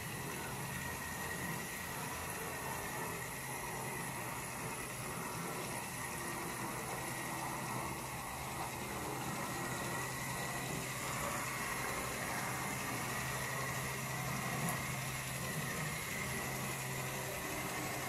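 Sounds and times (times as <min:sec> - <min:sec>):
toy train motor humming: 0:00.0 - 0:18.0.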